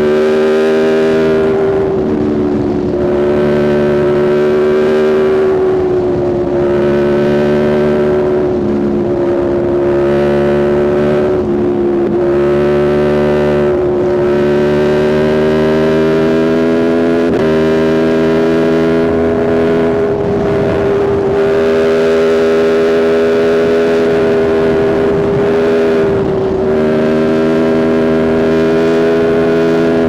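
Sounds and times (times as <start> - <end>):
motorcycle engine at high rpm: 0.0 - 30.0.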